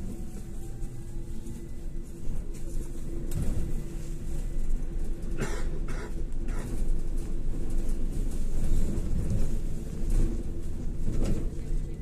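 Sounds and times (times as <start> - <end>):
bus cabin low rumble: 0.0 - 12.0.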